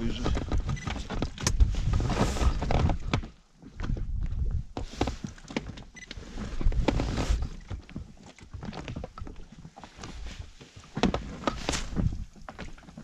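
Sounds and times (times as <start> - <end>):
knocks and thumps of gear: 0.0 - 13.0.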